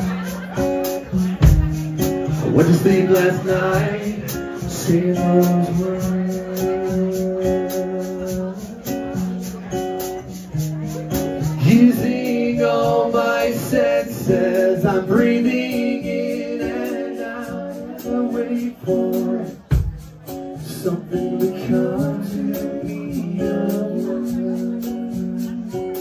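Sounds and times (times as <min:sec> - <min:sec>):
strummed acoustic guitars: 0:00.0 - 0:26.0
man singing: 0:02.2 - 0:09.4, 0:11.4 - 0:26.0.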